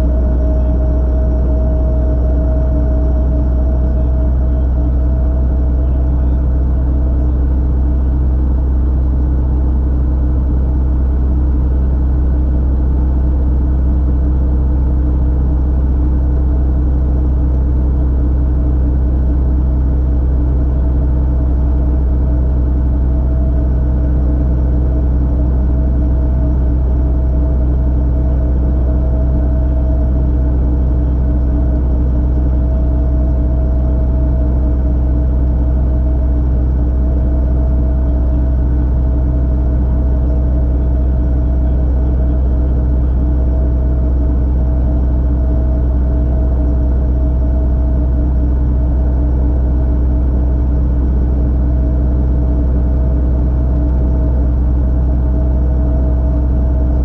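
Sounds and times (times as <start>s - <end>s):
constant hum: 0.0s - 57.0s
helicopter engine and rotor drone: 0.0s - 57.0s.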